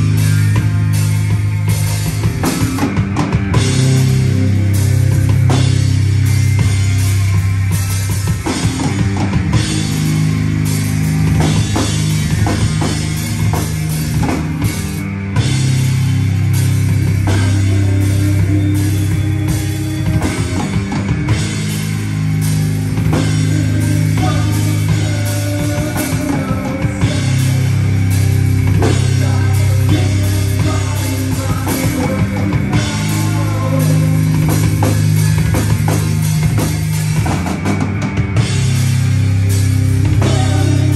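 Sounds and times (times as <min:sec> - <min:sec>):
bass guitar: 0:00.0 - 0:40.9
drum kit: 0:00.0 - 0:40.9
electric guitar: 0:00.0 - 0:40.9.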